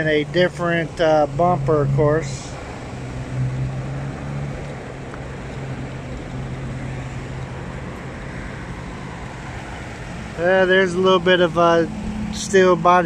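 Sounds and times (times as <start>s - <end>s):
roadside traffic noise: 0.0s - 13.0s
vehicle engine humming: 0.0s - 13.0s.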